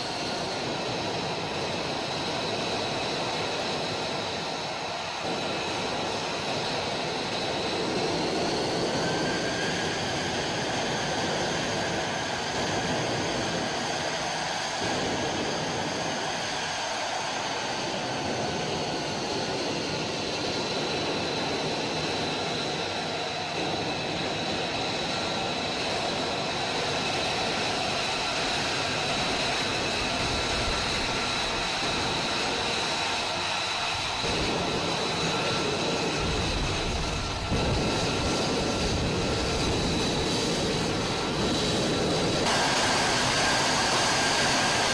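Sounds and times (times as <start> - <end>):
jet engine roar with high whine: 0.0 - 44.9.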